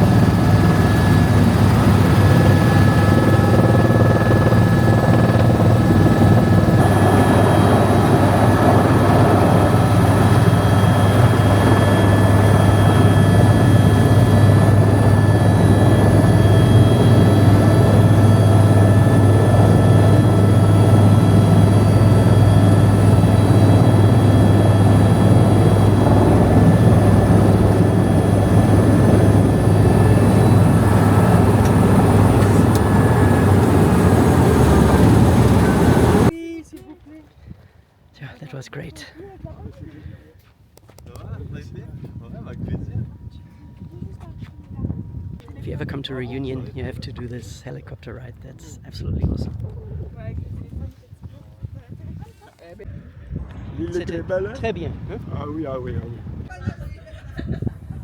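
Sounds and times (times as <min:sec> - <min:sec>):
helicopter rotor and turbine drone: 0:00.0 - 0:36.4, 0:41.4 - 0:50.7, 0:52.8 - 0:58.0.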